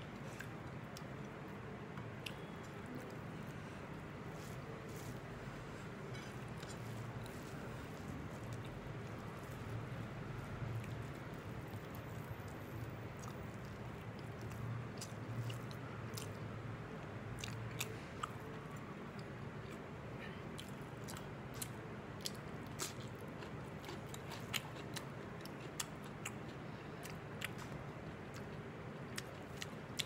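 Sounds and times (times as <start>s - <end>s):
low steady hum: 0.0s - 30.0s
person chewing food: 0.1s - 12.2s, 13.1s - 16.4s, 17.4s - 19.8s, 20.6s - 30.0s.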